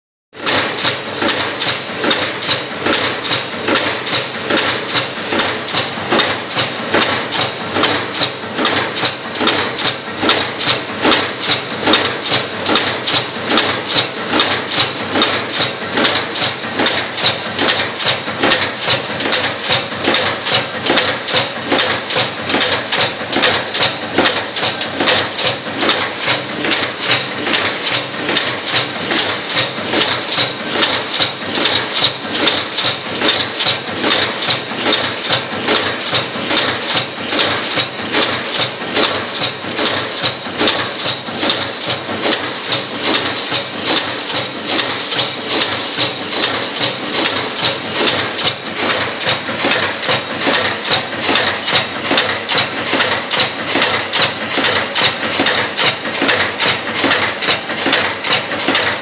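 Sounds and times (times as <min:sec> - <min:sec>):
machine tooling clacking: 0:00.4 - 0:59.0.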